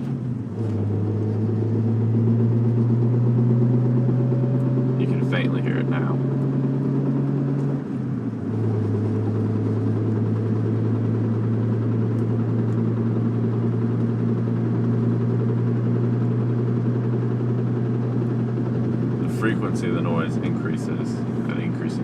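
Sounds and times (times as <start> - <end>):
car engine drone in cabin: 0.0 - 22.0.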